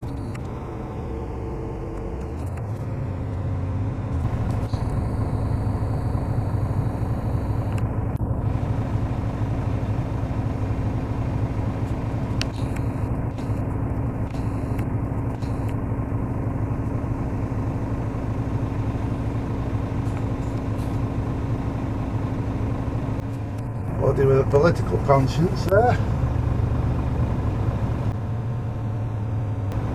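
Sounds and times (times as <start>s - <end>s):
freight train engine rumble: 0.0s - 29.9s.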